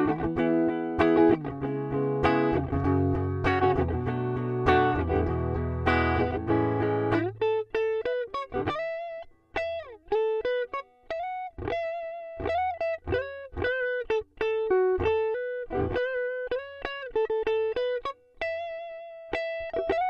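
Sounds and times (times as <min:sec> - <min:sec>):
clean electric guitar melody: 0:00.0 - 0:20.0.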